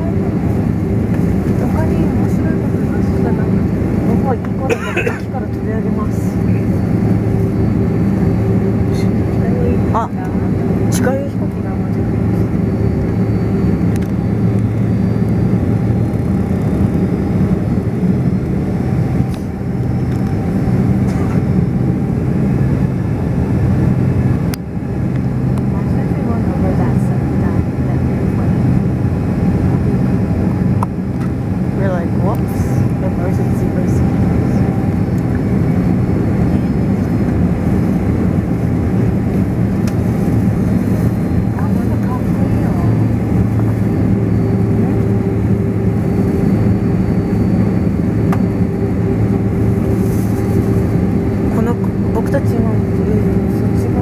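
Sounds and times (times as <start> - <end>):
airliner engines idling: 0.0 - 54.0.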